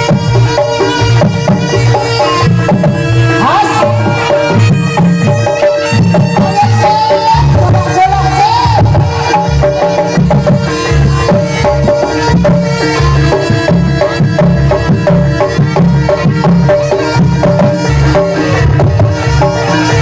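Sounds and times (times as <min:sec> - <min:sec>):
hand drums beating: 0:00.0 - 0:20.0
ringing metal percussion melody: 0:00.0 - 0:20.0.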